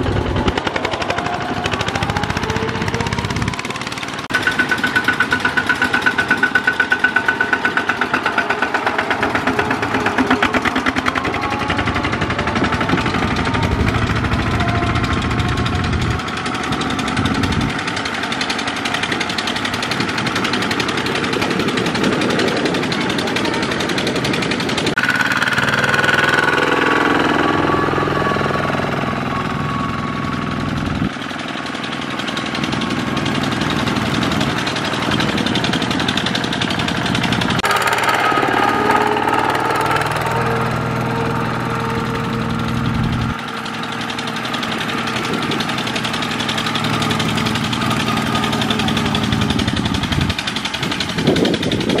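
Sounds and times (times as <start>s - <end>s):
diesel tractor engine chugging: 0.0s - 52.0s.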